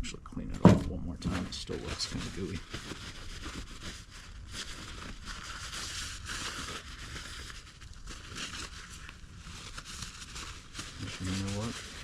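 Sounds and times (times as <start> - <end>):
crinkling and rubbing of wiping: 1.2 - 12.0.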